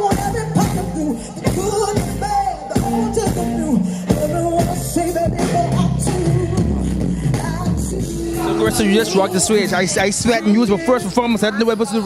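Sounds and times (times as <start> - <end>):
person singing: 0.0 - 11.4
live band playing: 0.0 - 12.0.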